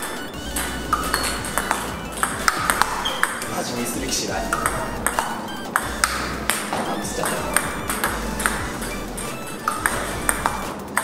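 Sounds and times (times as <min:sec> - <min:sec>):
table tennis ball clicking: 0:00.0 - 0:03.6, 0:04.4 - 0:11.0
background music: 0:00.0 - 0:11.0.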